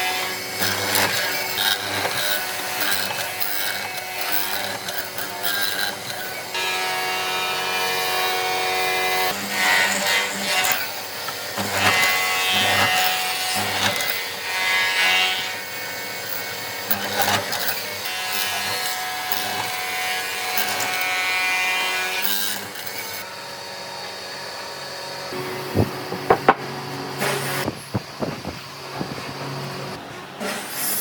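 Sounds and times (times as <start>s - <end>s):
power tool motor whining: 0.0s - 30.0s
rough wood cutting noise: 0.0s - 31.0s.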